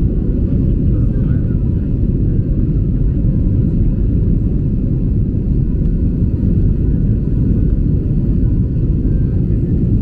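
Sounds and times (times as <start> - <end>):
jet engine rumble in cabin: 0.0 - 10.0.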